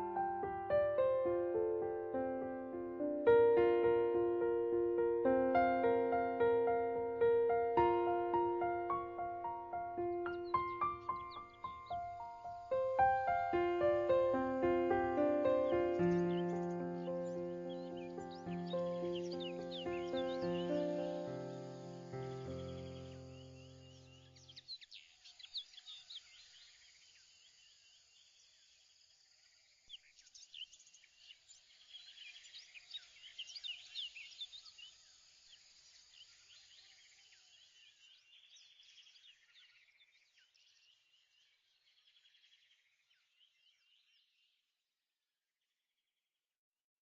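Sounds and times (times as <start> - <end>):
faint chorus of birds chirping: 0.0 - 44.8.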